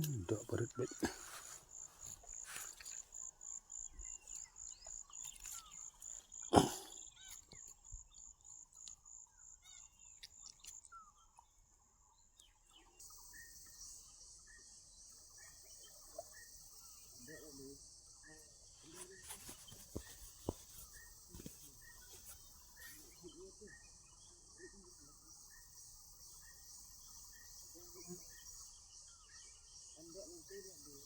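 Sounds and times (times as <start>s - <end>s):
insect buzz: 0.0s - 8.9s, 13.0s - 31.0s
insects chirping: 0.0s - 31.0s.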